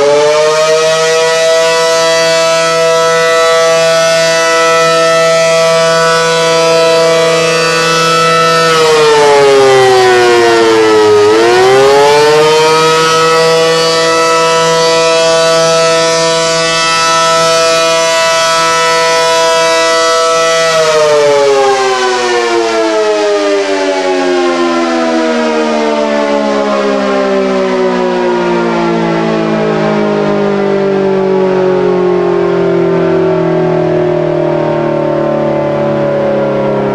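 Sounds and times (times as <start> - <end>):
warning siren: 0.0 - 36.9.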